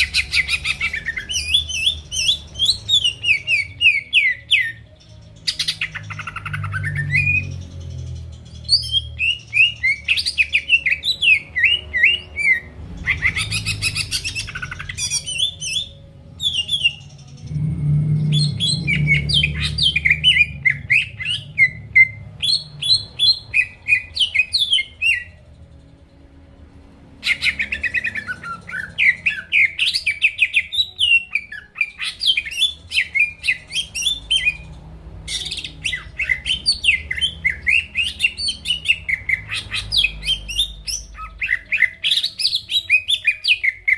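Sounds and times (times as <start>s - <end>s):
bird chirping and warbling: 0.0s - 26.2s, 27.1s - 43.9s.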